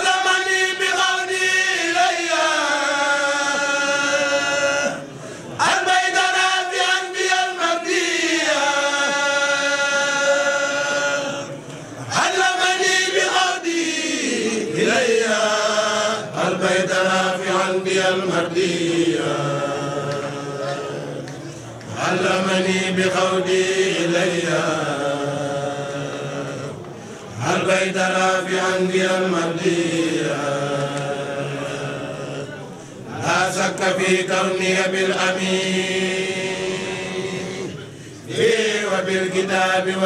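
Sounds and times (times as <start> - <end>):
person chanting religious poem: 0.0 - 40.0.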